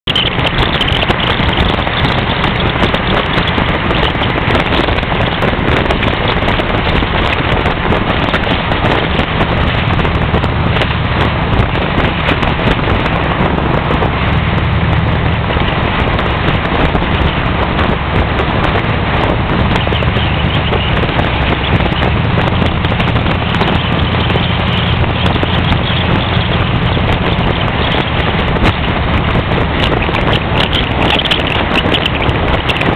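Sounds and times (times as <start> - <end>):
car engine: 0.0 - 32.9
road noise: 0.0 - 32.9
wind buffeting microphone: 0.0 - 32.9.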